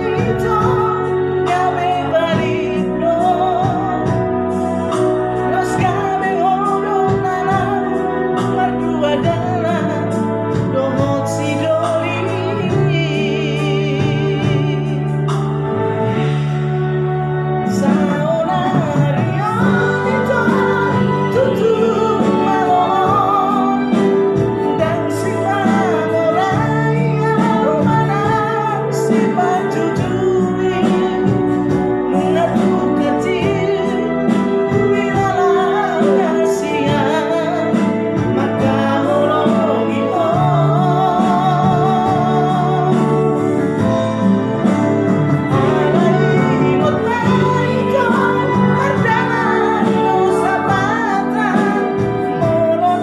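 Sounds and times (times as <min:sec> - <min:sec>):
instrumental backing track: 0:00.0 - 0:53.0
man singing: 0:00.0 - 0:53.0.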